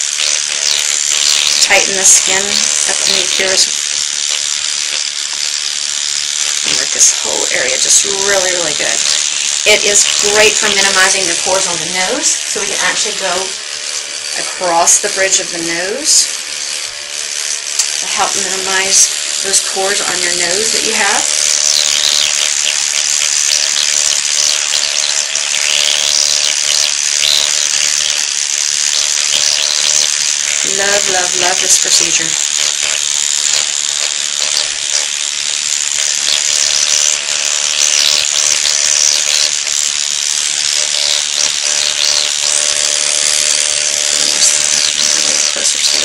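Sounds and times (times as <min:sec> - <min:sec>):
electric pen buzzing: 0:00.0 - 0:46.0.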